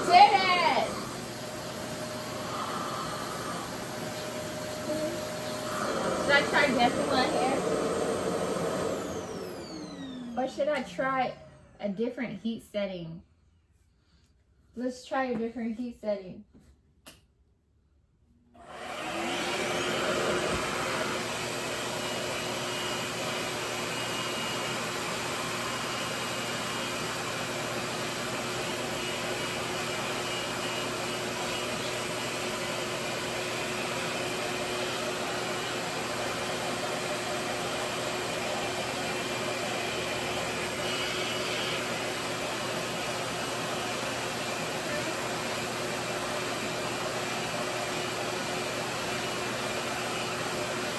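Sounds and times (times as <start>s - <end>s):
hair dryer rushing air: 0.0s - 11.7s, 18.6s - 50.9s.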